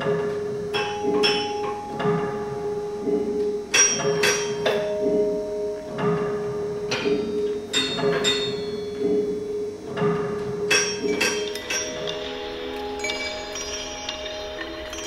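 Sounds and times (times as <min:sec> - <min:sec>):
metal objects struck ringing: 0:00.0 - 0:15.0
steady hum: 0:00.0 - 0:15.0.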